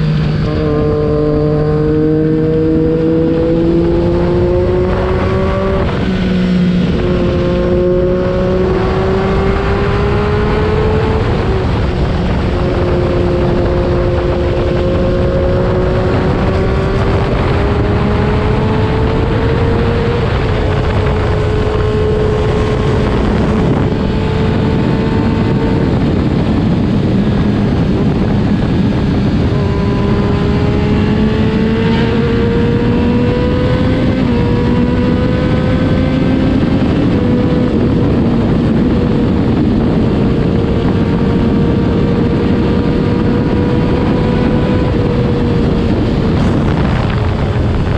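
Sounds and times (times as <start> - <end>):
motorcycle engine at speed: 0.0 - 47.9
wind rush on microphone: 0.0 - 47.9.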